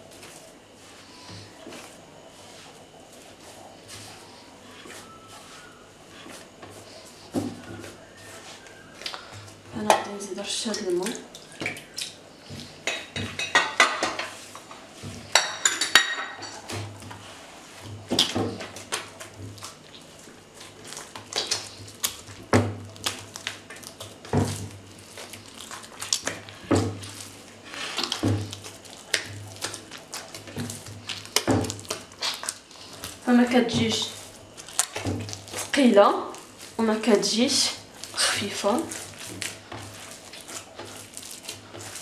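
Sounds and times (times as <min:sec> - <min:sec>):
dough squishing: 0:00.0 - 0:42.0.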